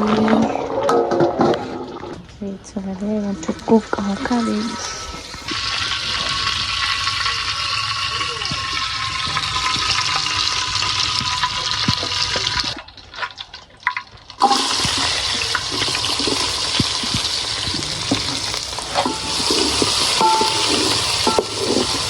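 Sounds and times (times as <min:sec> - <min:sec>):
food sizzling in a pan: 0:03.6 - 0:22.0.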